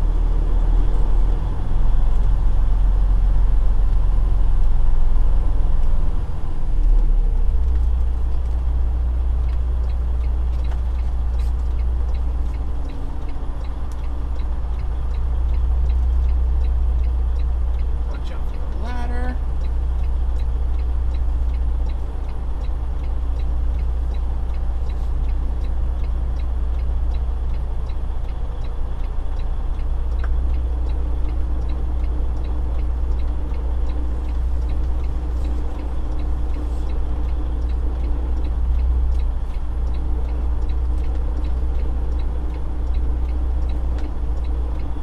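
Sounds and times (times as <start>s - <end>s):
diesel engine drone: 0.0s - 45.0s
faint regular ticking: 7.0s - 45.0s.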